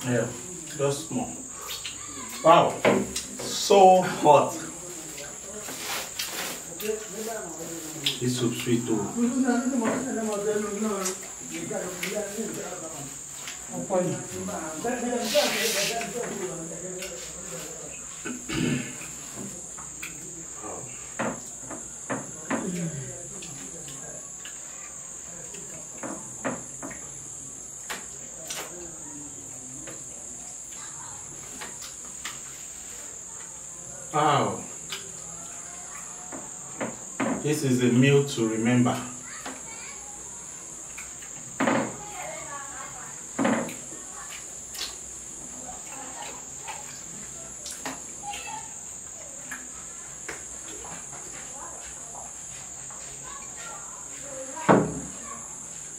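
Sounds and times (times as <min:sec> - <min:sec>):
crickets chirring: 0:00.0 - 0:55.9.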